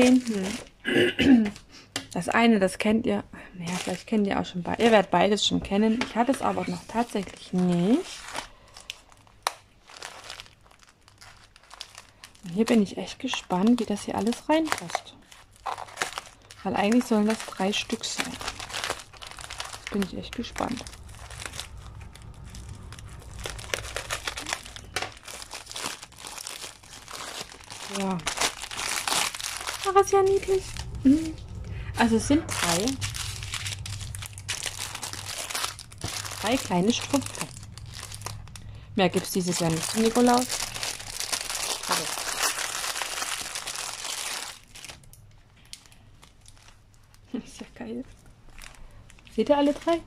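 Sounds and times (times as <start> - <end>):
plastic bag crinkling: 0.0 - 0.8, 3.6 - 50.0.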